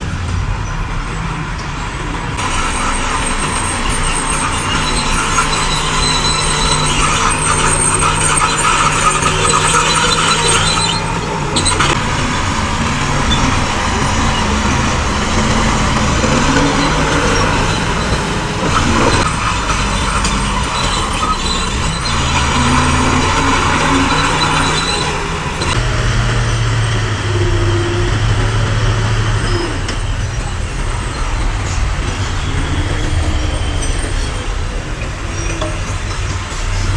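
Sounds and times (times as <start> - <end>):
heavy diesel machinery running: 0.0 - 36.9
high metallic squeal: 0.6 - 36.9.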